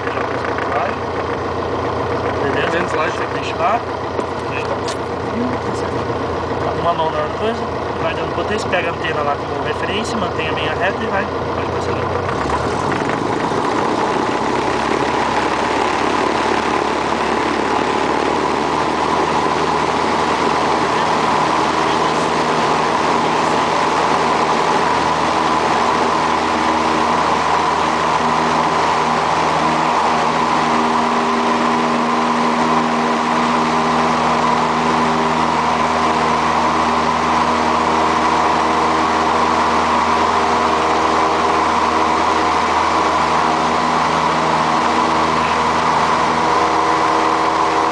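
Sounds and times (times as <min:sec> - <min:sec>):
light aircraft engine and propeller: 0:00.0 - 0:47.9.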